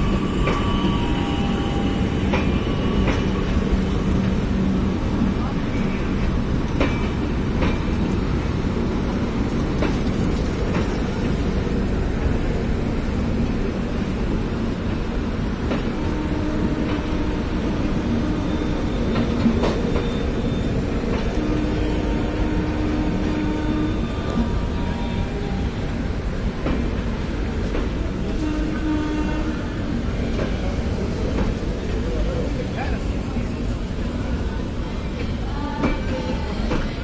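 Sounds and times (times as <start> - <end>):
train coaches rumbling past: 0.0 - 37.0.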